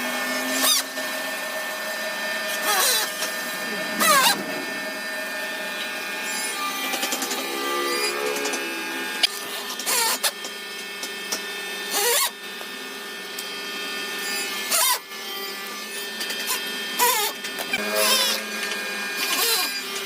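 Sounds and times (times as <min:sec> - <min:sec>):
rotary tool cutting wood: 0:00.0 - 0:20.0
rotary tool high whine: 0:00.0 - 0:20.0.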